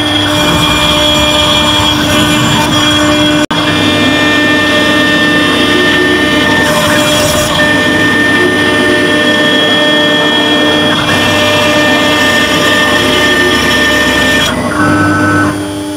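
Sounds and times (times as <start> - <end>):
end mill cutting metal: 0.0 - 15.9
engraving router spindle whine: 0.0 - 15.9.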